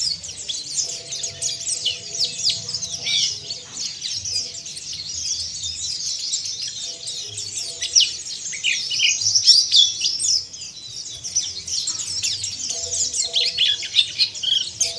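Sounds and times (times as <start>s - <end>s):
birds twittering harshly: 0.0s - 14.9s.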